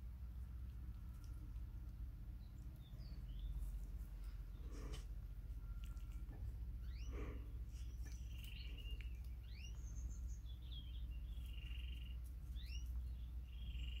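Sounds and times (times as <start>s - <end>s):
steady low rumble: 0.0s - 14.0s
songbird chirping and trilling: 0.7s - 14.0s.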